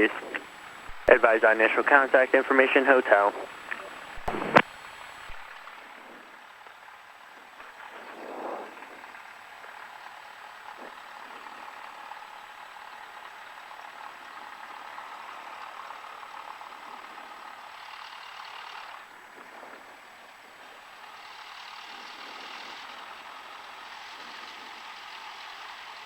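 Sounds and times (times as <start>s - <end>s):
muffled aircraft engine hiss: 0.0s - 26.0s.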